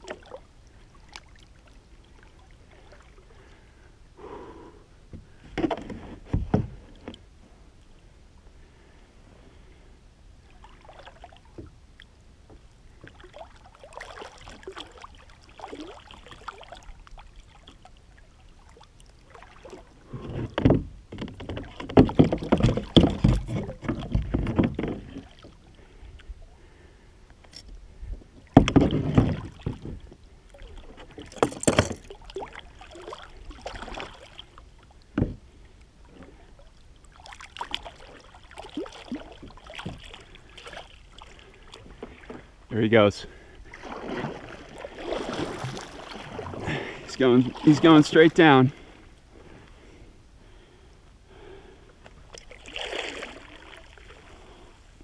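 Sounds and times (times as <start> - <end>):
water splashing against kayak: 0.0 - 3.6, 10.4 - 55.0.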